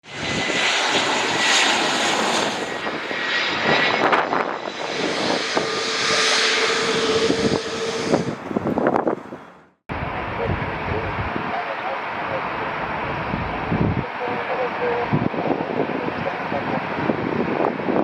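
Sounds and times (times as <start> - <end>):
jet engines rushing: 0.0 - 18.0
high whine: 0.1 - 17.7.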